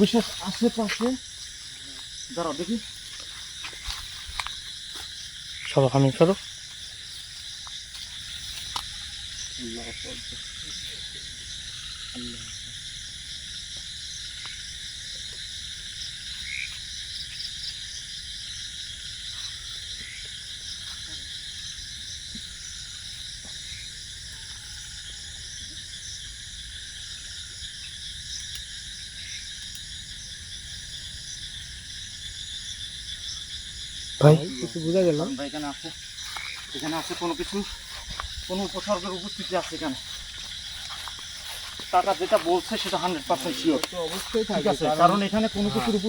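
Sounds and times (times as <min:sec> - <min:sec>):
crickets and insects trilling: 0:00.0 - 0:46.0
frogs calling: 0:00.0 - 0:46.0.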